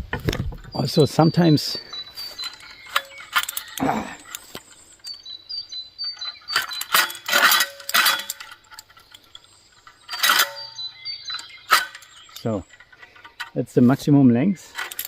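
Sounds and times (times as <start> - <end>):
metal rattling: 0.0 - 5.3, 6.0 - 15.0
metal clicking and scraping: 0.0 - 5.4, 6.0 - 15.0.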